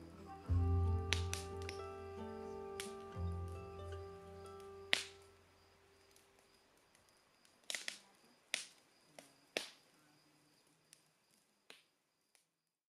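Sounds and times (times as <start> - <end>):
campfire crackling and popping: 0.0 - 9.9, 10.6 - 12.6.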